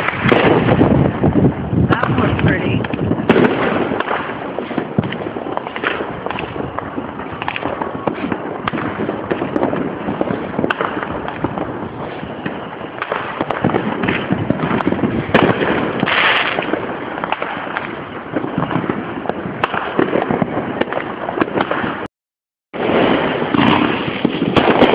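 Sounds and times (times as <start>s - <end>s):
fireworks and firecrackers banging: 0.0s - 22.1s, 22.8s - 24.9s.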